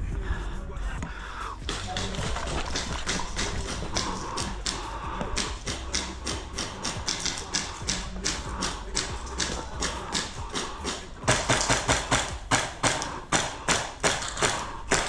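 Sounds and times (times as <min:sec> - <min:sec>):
music: 0:00.0 - 0:15.0
sharp taps and thuds: 0:01.6 - 0:15.0.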